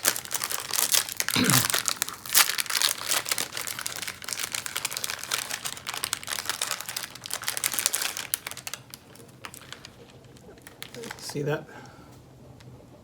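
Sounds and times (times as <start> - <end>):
snack wrapper crinkling and tearing: 0.0 - 11.5.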